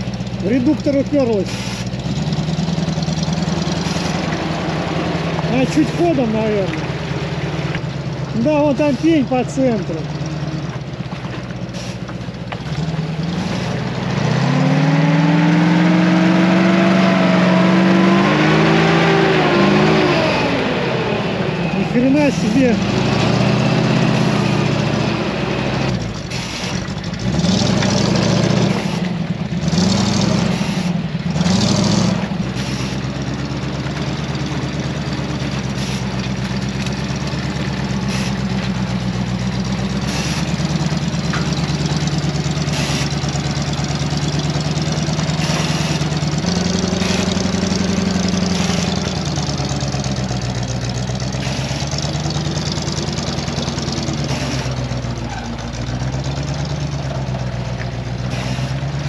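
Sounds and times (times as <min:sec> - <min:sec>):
truck engine under load: 0:00.0 - 0:59.0.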